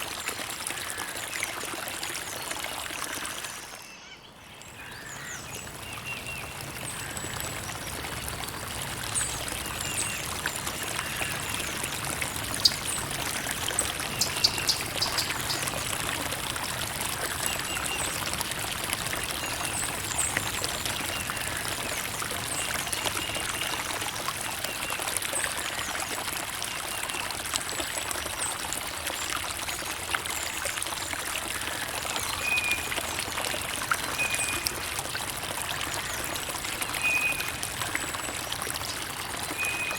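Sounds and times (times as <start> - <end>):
creek water trickling over stones: 0.0 - 39.9
small water plinks and splashes: 0.0 - 39.9.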